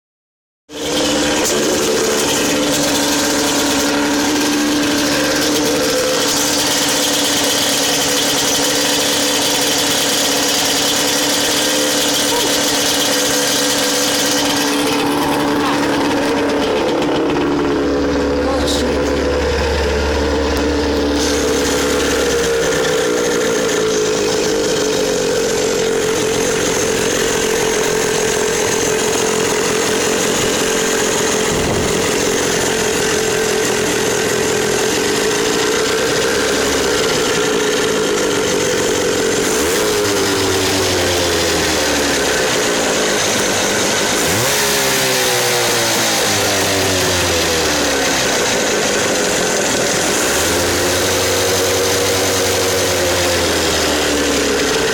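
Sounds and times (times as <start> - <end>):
small boat engine buzzing: 0.7 - 54.9.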